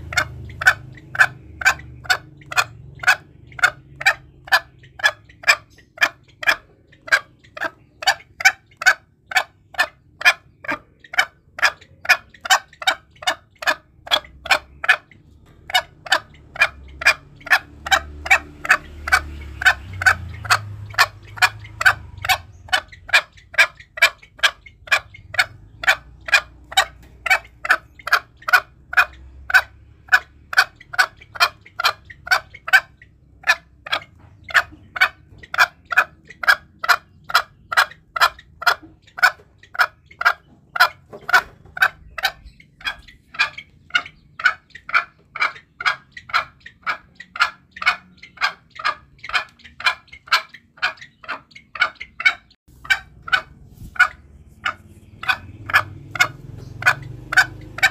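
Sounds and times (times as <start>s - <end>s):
junglefowl clucking: 0.0s - 57.9s.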